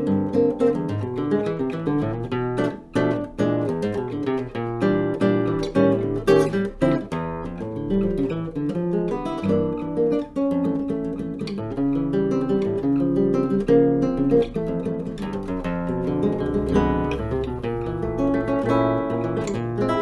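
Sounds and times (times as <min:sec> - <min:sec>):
classical guitar fingerstyle: 0:00.0 - 0:20.0.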